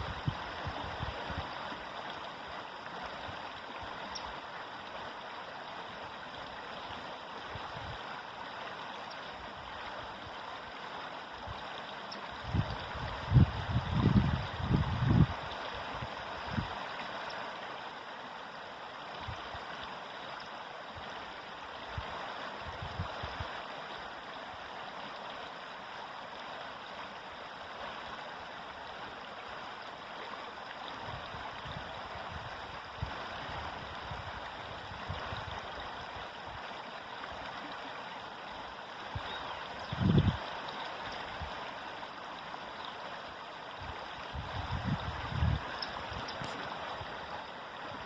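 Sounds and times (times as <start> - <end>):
low gurgles: 0.0 - 48.0
river water rushing: 0.0 - 48.0.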